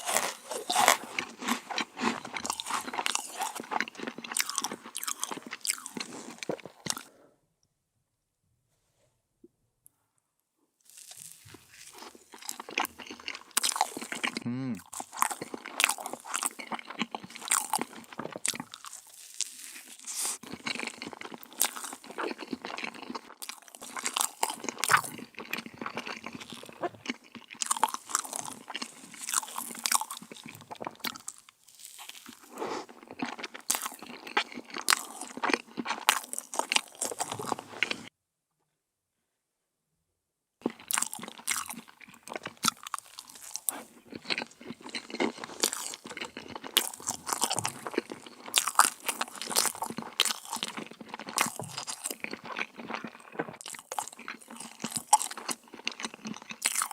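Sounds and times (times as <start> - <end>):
crunching meringue cookies: 0.0 - 7.1, 10.9 - 38.1, 40.6 - 56.9.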